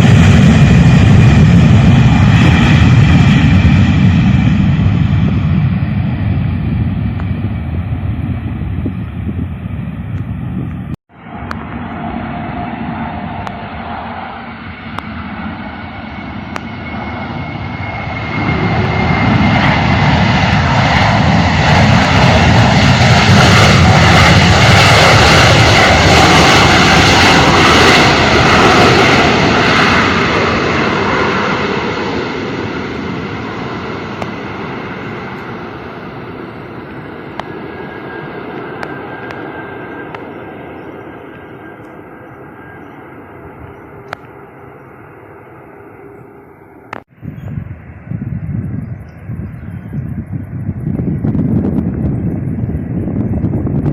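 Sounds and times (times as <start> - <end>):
jet airliner engine rumble: 0.0 - 53.9.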